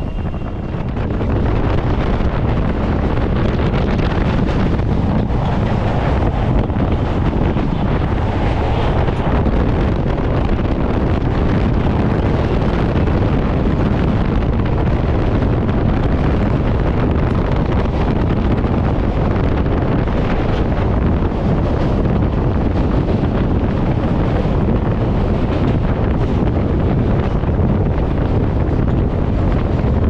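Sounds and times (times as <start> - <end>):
train rumbling at speed: 0.0 - 30.0
wind buffeting microphone: 0.0 - 30.0.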